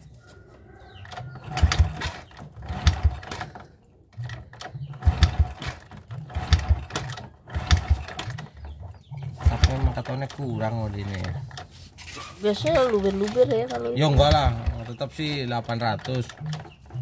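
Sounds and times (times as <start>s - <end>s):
motorcycle engine cranking: 0.9s - 17.0s.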